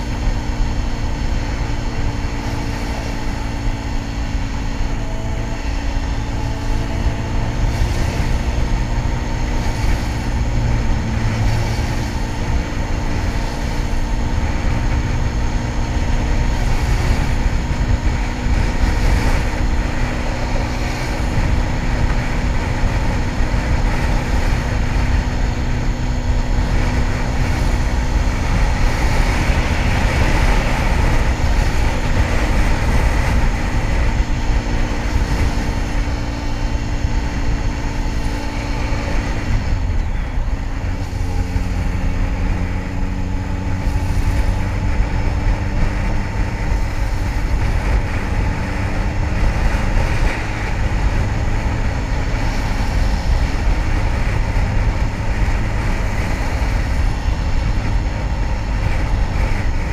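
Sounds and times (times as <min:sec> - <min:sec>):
motorcycle engine cruising: 0:00.0 - 0:59.9
wind rush: 0:00.0 - 0:59.9.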